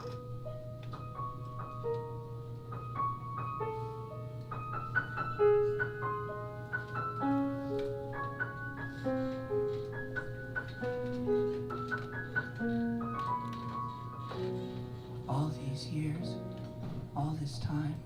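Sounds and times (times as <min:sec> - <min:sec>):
piano playing: 0:00.0 - 0:18.0.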